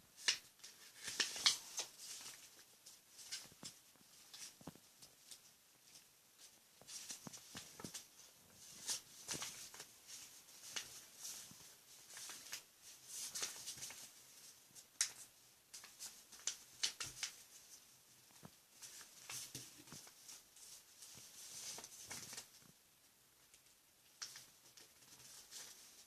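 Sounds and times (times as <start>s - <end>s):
paper rustling and creasing: 0.2s - 22.7s, 24.2s - 26.0s.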